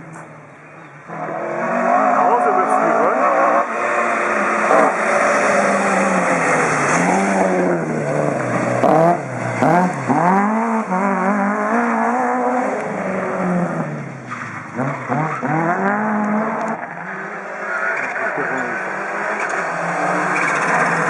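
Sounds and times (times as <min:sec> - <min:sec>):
rally car engine under throttle: 0:00.0 - 0:21.0.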